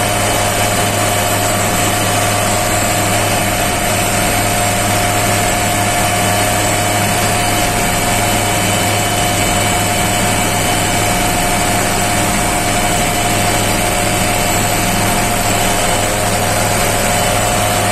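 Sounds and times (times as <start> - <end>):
helicopter hovering: 0.0 - 17.9.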